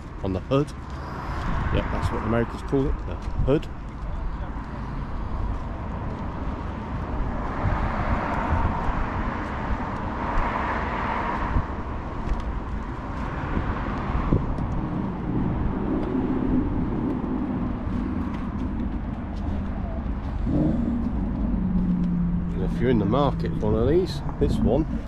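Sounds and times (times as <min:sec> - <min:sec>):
constant low rumble: 0:00.0 - 0:07.8, 0:11.4 - 0:25.0
motor vehicle engine: 0:00.0 - 0:25.0.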